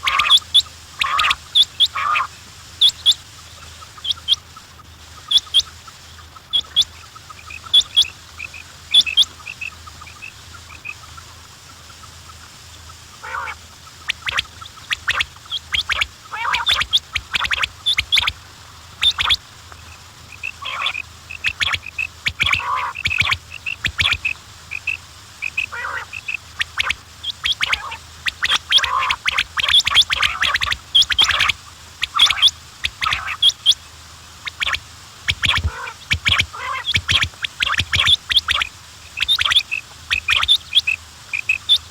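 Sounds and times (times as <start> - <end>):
quails chirping: 0.0 - 41.9.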